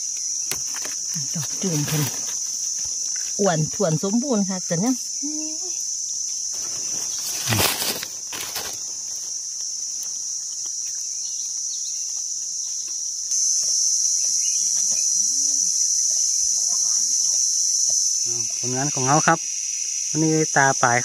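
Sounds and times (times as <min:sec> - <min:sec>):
insect chorus drone: 0:00.0 - 0:21.0.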